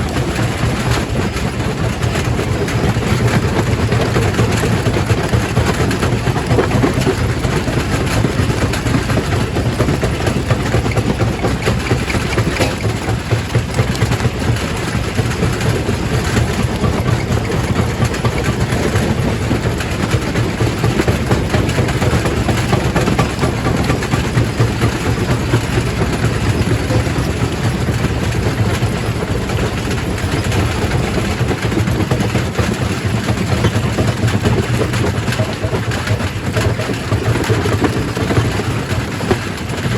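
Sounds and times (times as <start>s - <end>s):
rock crusher droning: 0.0s - 39.9s.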